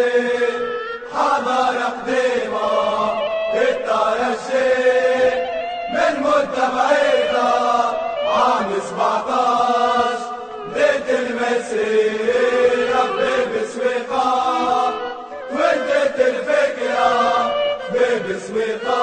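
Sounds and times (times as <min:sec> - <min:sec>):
crowd chanting in unison: 0:00.0 - 0:19.0.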